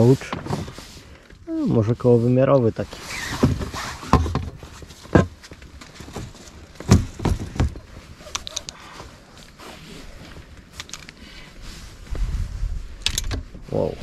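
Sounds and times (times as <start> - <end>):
rustling of gear: 0.0 - 14.0.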